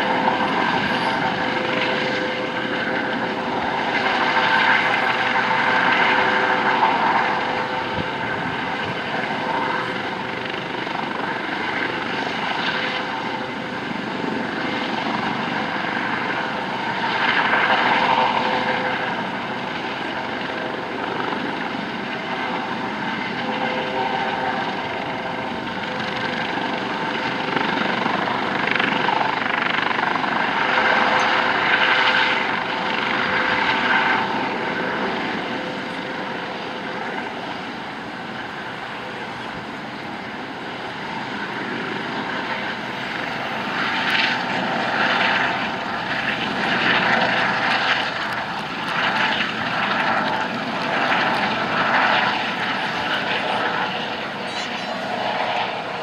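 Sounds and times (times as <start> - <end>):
helicopter flying past: 0.0 - 56.0.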